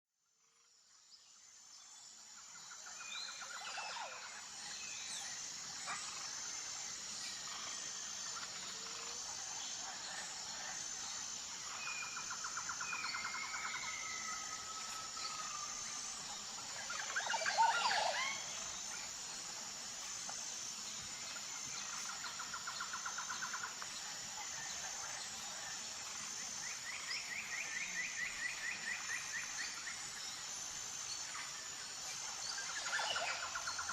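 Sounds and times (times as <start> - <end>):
insects chirring: 0.4 - 33.9.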